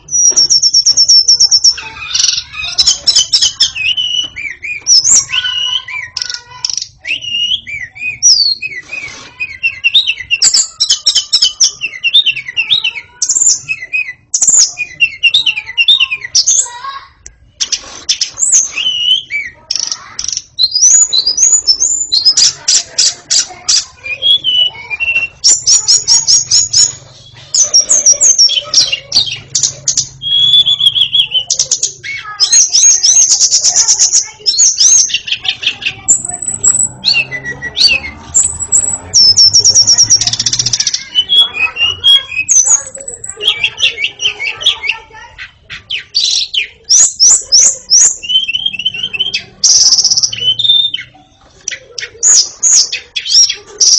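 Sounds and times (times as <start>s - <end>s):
bird singing whistled phrases: 0.0s - 16.7s, 18.2s - 22.7s, 24.0s - 45.0s, 45.9s - 53.9s.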